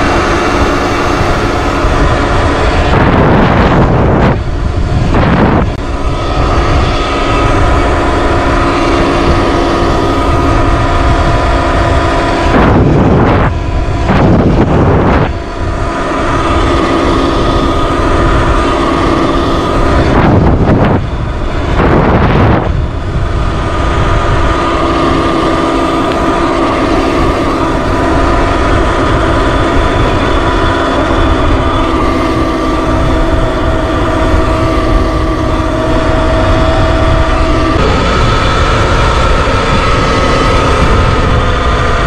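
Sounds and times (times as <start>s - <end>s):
electric motor whine: 0.0s - 42.0s
rushing whoosh: 0.0s - 42.0s
wind rush on microphone: 0.0s - 42.0s.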